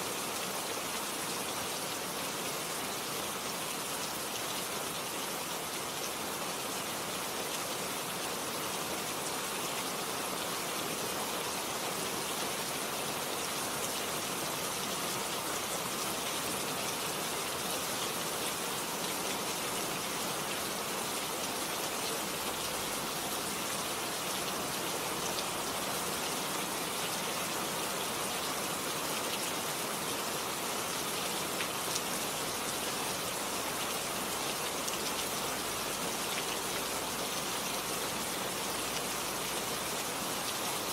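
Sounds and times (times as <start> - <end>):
rain on plants and leaves: 0.0 - 40.9.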